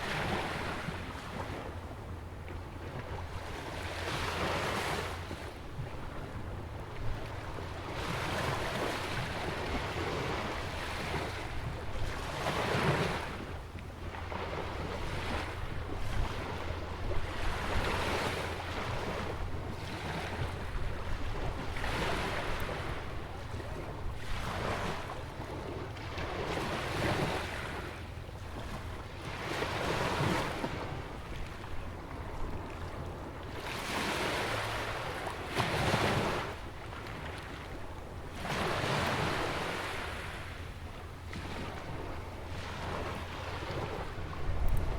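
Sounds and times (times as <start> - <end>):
small waves breaking: 0.0 - 44.9
wind rumble on microphone: 0.0 - 44.9.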